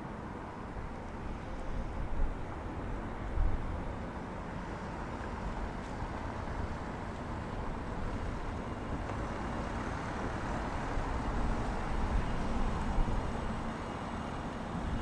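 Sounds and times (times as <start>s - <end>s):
train hum and rumble: 0.0s - 15.0s.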